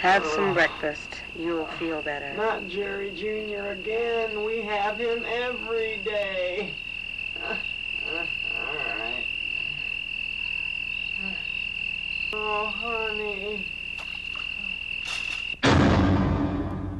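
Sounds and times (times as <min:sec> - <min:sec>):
croaking calls: 0:00.0 - 0:15.6
high insect drone: 0:00.0 - 0:15.7.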